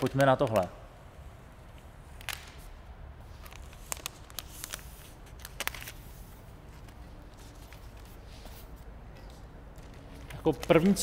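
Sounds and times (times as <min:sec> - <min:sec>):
paper crackling: 0:02.1 - 0:11.0.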